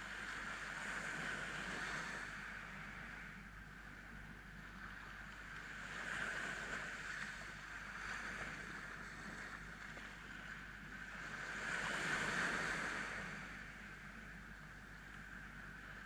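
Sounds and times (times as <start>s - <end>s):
waves washing up a beach: 0.0s - 16.0s.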